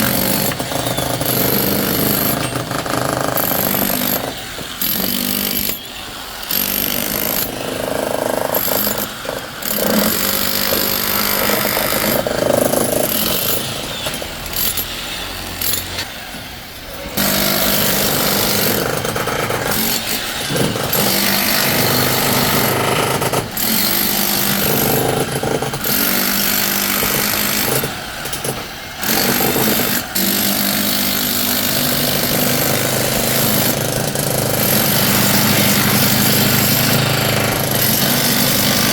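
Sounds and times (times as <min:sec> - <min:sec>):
demolition breaker hammering: 0:00.0 - 0:15.0, 0:17.1 - 0:38.9.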